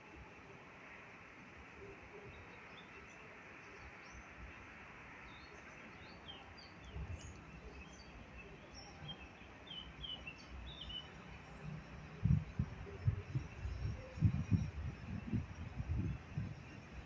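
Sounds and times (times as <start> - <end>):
faint outdoor hiss: 0.0 - 17.0
small birds chirping: 2.3 - 17.0.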